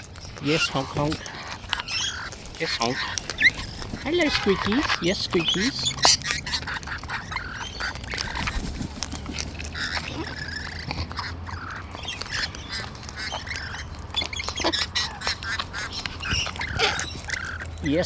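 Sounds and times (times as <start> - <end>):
wild birds honking and squeaking: 0.0 - 18.0.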